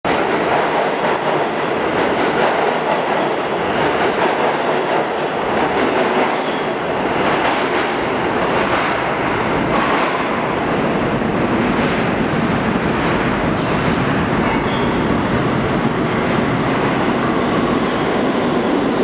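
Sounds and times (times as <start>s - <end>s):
train wheels running on rails: 0.1s - 19.0s.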